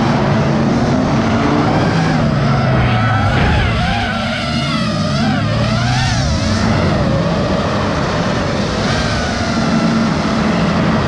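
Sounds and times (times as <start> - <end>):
drone motors whining: 0.0 - 11.0
rushing wind: 0.0 - 11.0.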